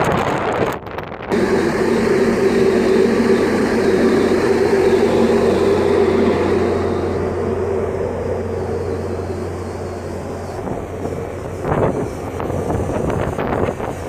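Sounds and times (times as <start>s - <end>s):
strong wind rushing: 0.0s - 14.0s
ship engine droning: 1.3s - 14.0s.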